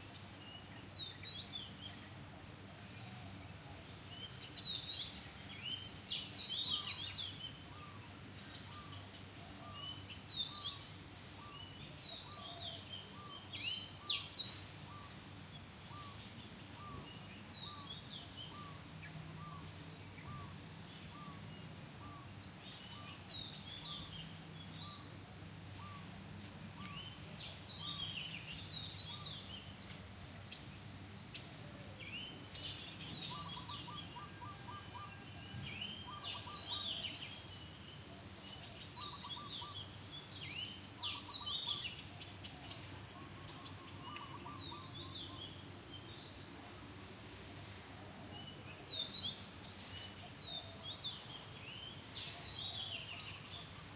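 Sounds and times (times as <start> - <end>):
weaver birds chattering: 3.8 - 53.9.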